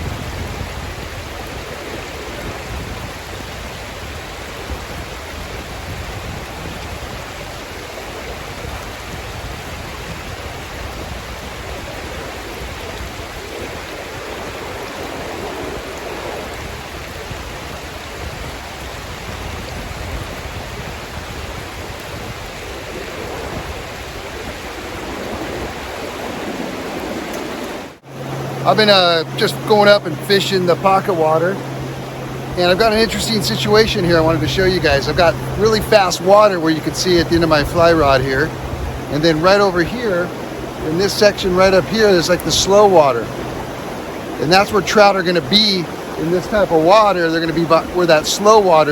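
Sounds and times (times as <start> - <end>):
river current rushing: 0.0 - 48.9.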